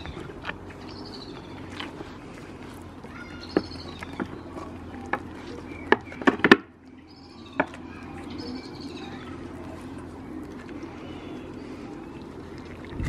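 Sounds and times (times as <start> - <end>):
small bird singing: 0.0 - 2.2, 2.8 - 12.6
goats biting knocks and clicks: 0.0 - 13.0.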